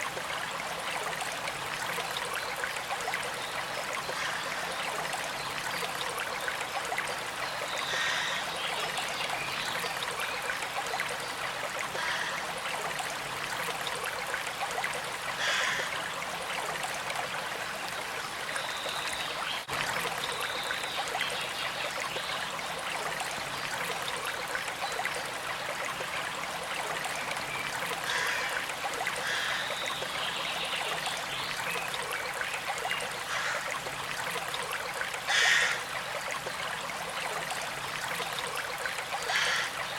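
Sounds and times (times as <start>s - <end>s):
small stream babbling: 0.0s - 39.9s.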